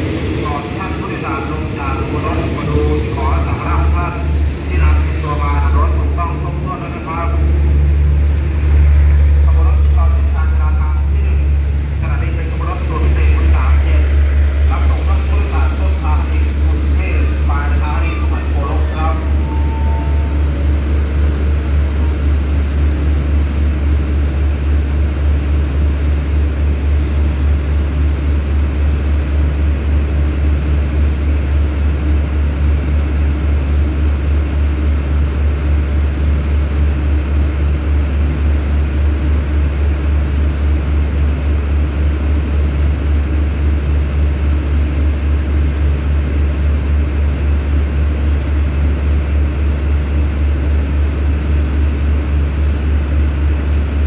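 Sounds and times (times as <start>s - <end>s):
train diesel engine idling: 0.0s - 54.0s.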